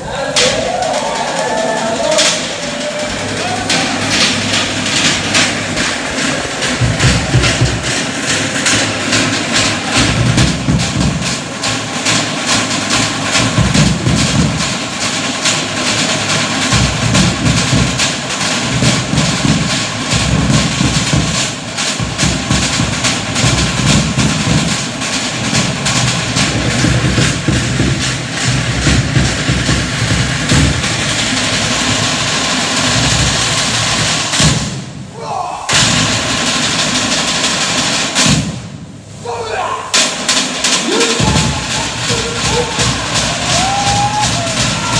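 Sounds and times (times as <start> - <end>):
large drums playing fast beat: 0.0 - 35.1, 35.7 - 39.2, 39.9 - 44.9.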